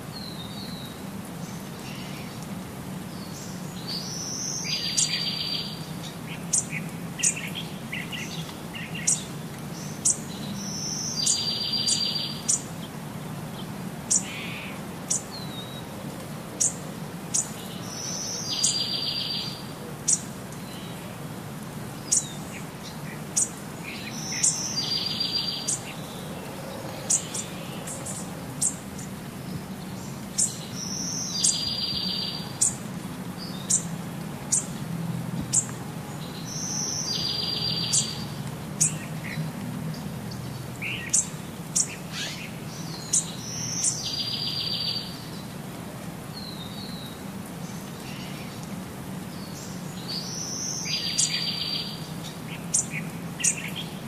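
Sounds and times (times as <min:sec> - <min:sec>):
small birds chirping and singing: 0:00.1 - 0:21.2, 0:21.9 - 0:45.6, 0:46.2 - 0:54.0.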